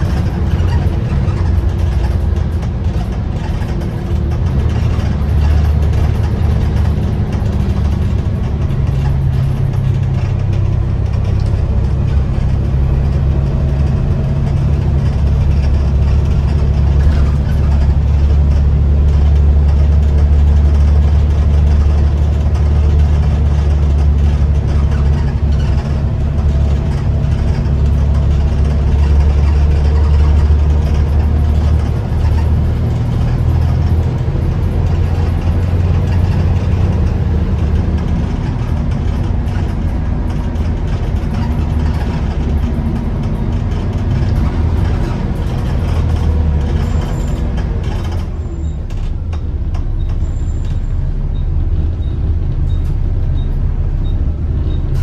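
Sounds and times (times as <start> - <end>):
bus engine droning: 0.0 - 55.0
road noise: 0.0 - 55.0.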